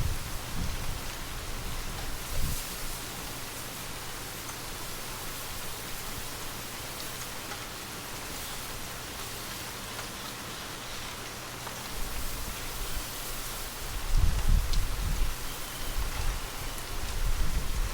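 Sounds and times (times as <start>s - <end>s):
gentle rain hiss: 0.0s - 17.9s.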